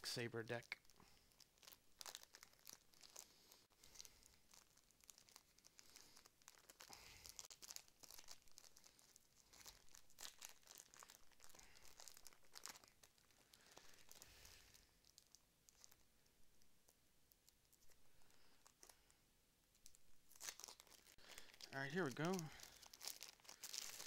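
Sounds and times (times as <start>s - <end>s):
foil wrapper crinkling and tearing: 0.5s - 16.0s, 19.8s - 24.0s.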